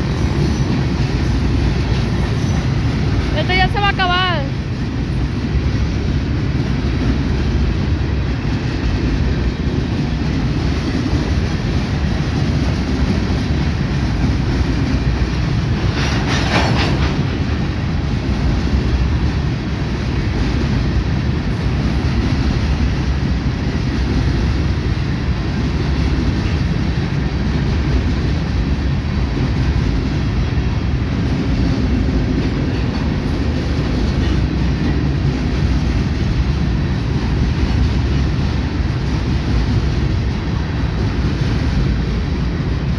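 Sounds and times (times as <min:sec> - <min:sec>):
freight train wheels clattering: 0:00.0 - 0:42.9.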